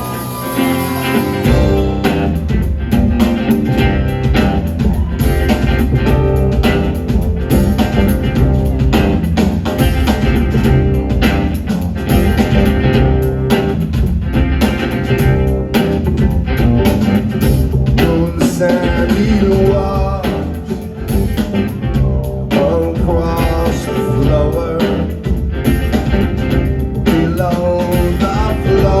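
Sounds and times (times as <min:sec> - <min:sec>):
bass guitar: 0:00.0 - 0:29.0
drums: 0:00.0 - 0:29.0
electric guitar: 0:00.0 - 0:29.0.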